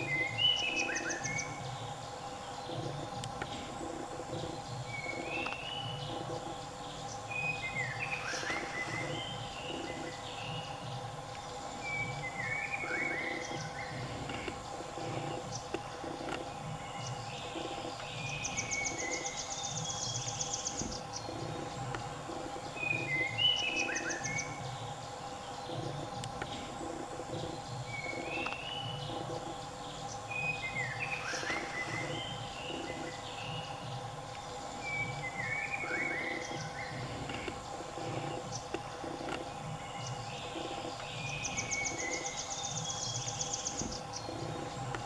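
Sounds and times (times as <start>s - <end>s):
birds chirping: 0.0s - 45.0s
soft low pulsing beat: 0.0s - 45.0s
steady hum: 0.0s - 45.0s.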